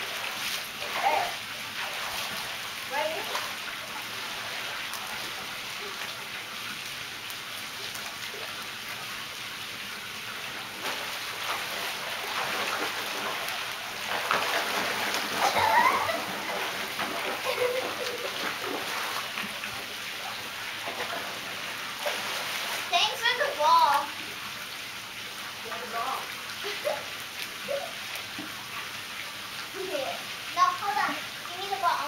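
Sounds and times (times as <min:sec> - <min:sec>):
water splashing from swimming: 0:00.0 - 0:32.0.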